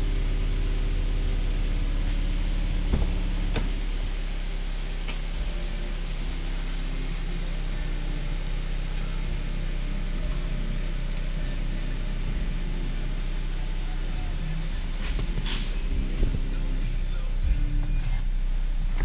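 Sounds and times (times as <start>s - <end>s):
faint low held tones: 0.0s - 19.0s
low mechanical hum: 0.0s - 19.0s.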